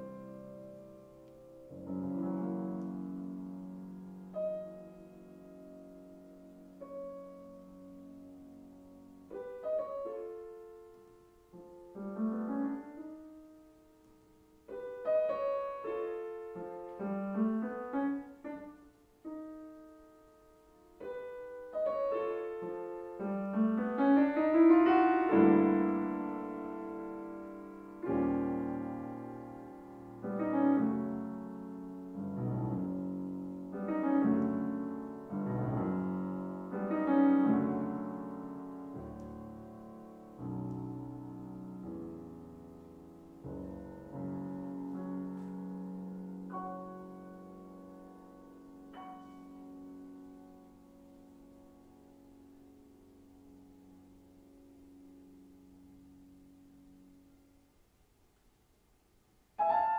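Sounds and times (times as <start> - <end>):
solo grand piano piece: 0.0 - 59.9.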